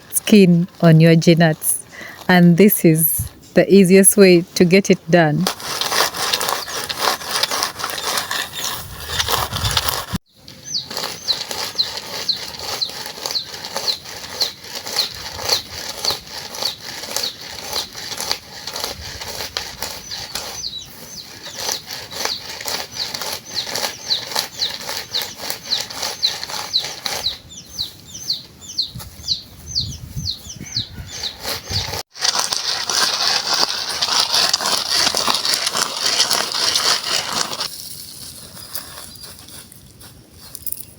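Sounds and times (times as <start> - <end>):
nuts rubbed by hand rustling: 0.0 - 10.2, 10.8 - 27.3, 31.1 - 40.8.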